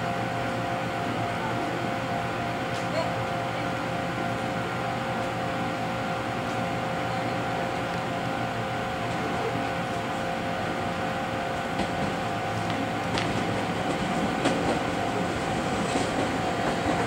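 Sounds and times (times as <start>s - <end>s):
electric train running: 0.0s - 17.0s.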